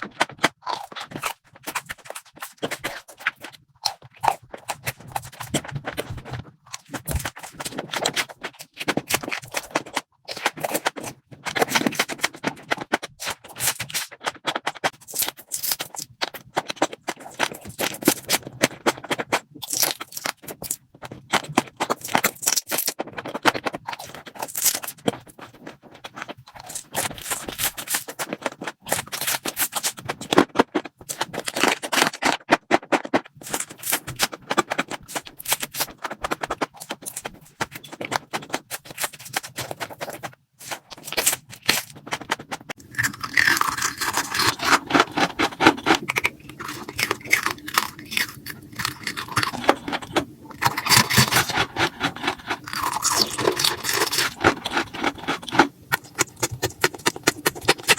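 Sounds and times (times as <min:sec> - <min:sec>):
crunchy food chewing: 0:00.0 - 0:57.9.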